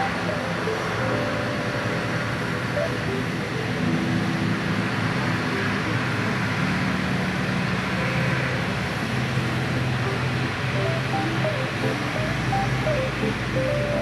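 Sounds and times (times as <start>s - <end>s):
jet engine droning: 0.0s - 14.0s.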